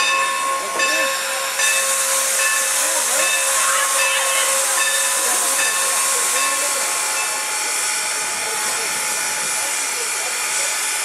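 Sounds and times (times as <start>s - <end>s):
steam venting hiss: 1.2s - 11.0s.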